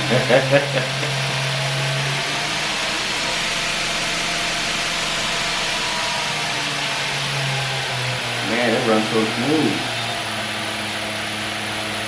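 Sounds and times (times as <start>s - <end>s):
belt grinder running: 0.0s - 12.0s.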